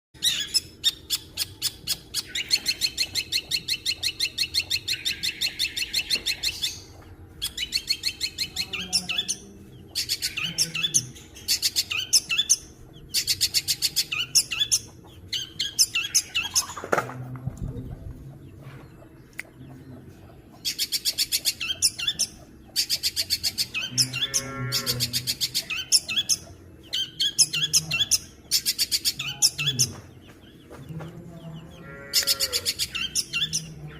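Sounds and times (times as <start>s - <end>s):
steady low hum: 0.2s - 33.9s.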